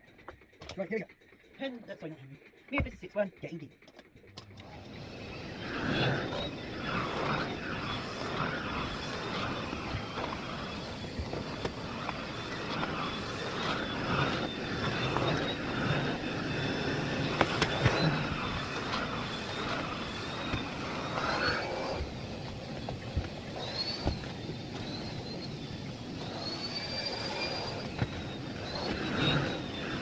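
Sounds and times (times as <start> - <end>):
vacuum cleaner motor whine: 4.4 - 30.0.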